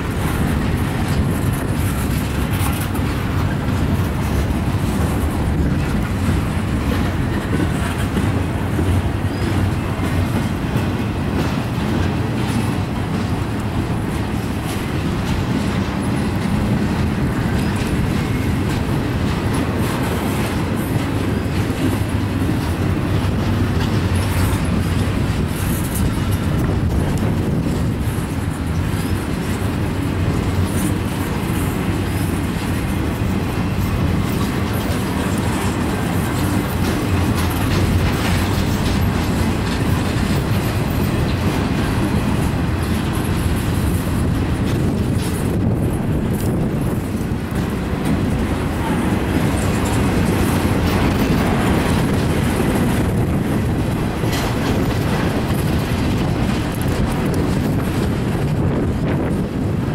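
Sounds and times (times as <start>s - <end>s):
clicks over rail joints: 0.0s - 59.7s
freight train wheels rumbling: 0.0s - 59.9s.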